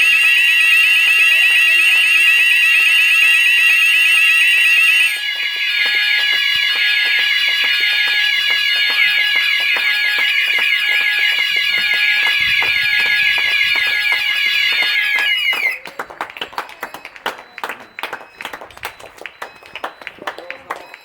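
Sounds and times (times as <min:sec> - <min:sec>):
fire alarm sounders: 0:00.0 - 0:21.0
people clapping: 0:00.0 - 0:21.0.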